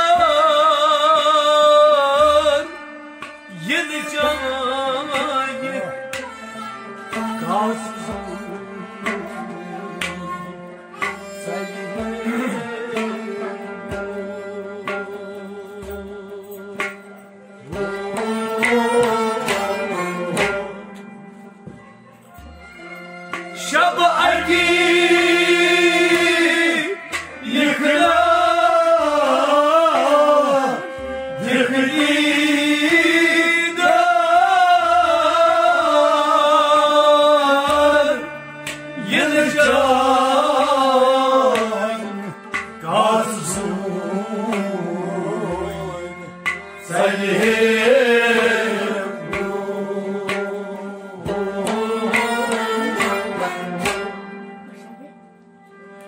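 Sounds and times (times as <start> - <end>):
man singing melismatically: 0.0 - 21.0, 23.5 - 54.4.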